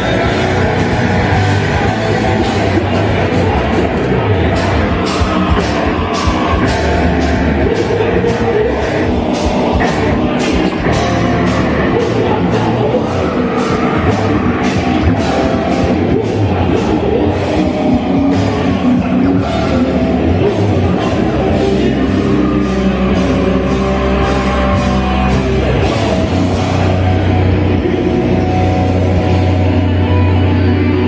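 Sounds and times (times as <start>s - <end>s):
nu metal band playing live: 0.0s - 31.0s
person singing: 0.0s - 31.0s.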